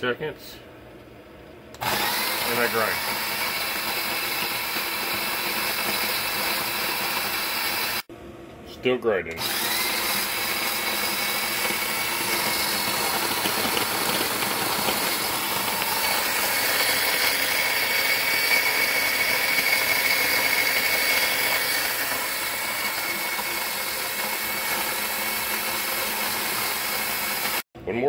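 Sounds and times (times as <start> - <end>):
coffee grinder grinding: 1.8 - 8.1, 9.4 - 27.6.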